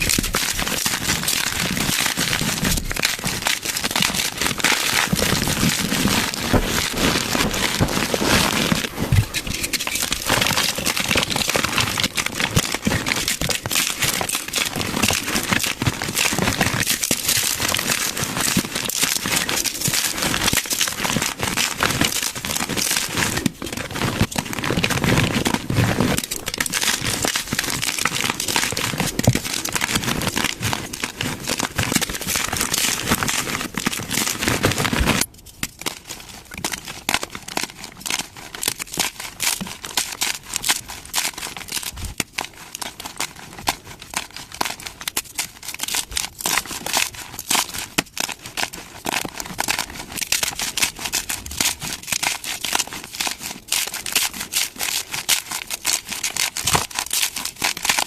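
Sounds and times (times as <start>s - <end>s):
chalk crunching and crumbling: 0.0s - 58.0s.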